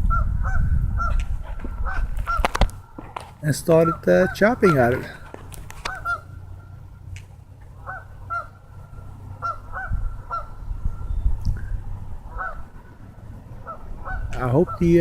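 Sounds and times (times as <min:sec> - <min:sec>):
birds honking: 0:00.0 - 0:07.1, 0:07.7 - 0:11.1, 0:12.2 - 0:15.0
steady low rumble: 0:00.0 - 0:15.0.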